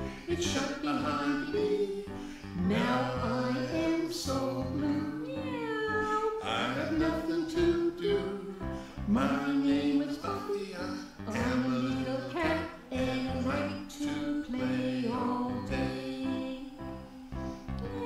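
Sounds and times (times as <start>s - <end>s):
instrumental backing music: 0.0s - 18.0s
person singing: 0.0s - 18.0s.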